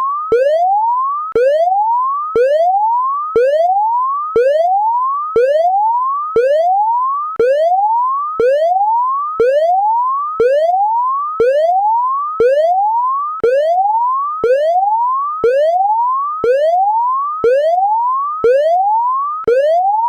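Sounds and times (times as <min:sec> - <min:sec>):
electronic whoop alarm: 0:00.0 - 0:20.0.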